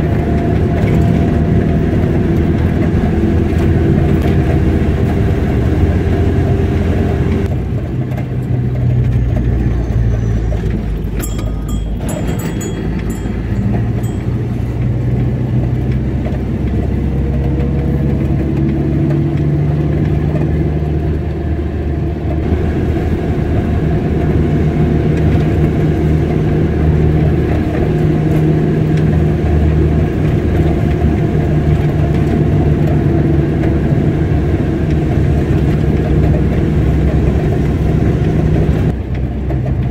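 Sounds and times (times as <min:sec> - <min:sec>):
car engine rumble: 0:00.0 - 0:39.9.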